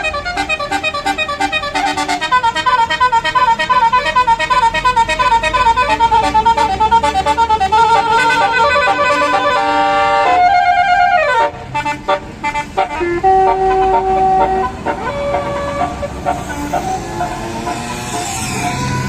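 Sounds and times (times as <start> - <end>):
musical air horn melody: 0.0 - 19.0.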